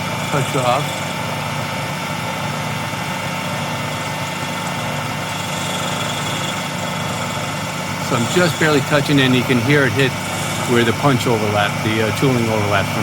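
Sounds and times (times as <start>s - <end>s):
milling machine hum: 0.0s - 13.0s
steady machine whine: 0.0s - 13.0s.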